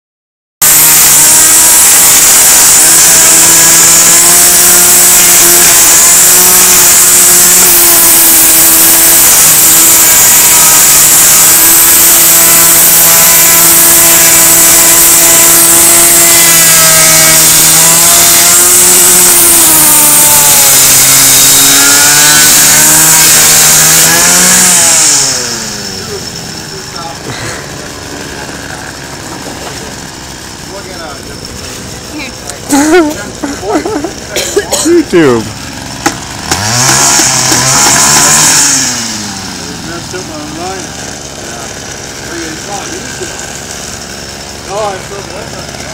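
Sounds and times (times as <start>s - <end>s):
string trimmer engine running: 0.6s - 45.9s
trimmer line whipping wood: 0.6s - 45.9s.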